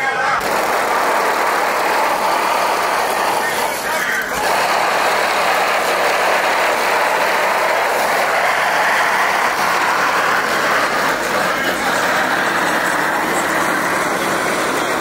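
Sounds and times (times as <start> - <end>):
vehicle noise rush: 0.4 - 15.0.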